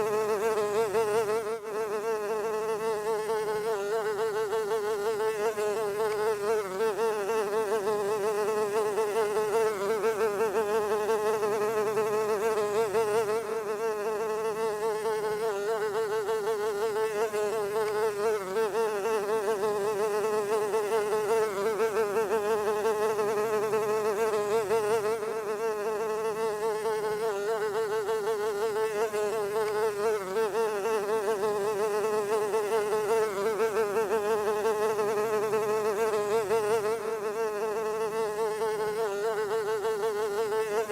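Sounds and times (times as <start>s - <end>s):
fly buzzing: 0.0s - 40.9s.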